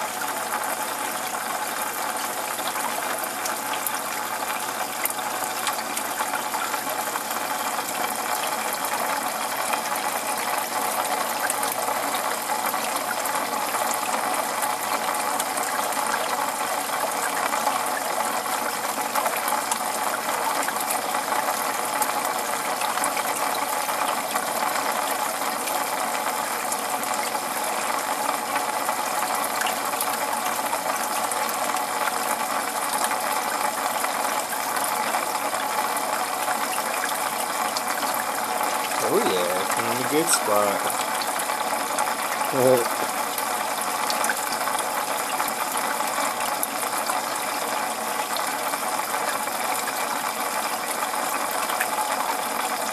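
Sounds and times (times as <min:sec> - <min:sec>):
aquarium water bubbling: 0:00.0 - 0:52.9.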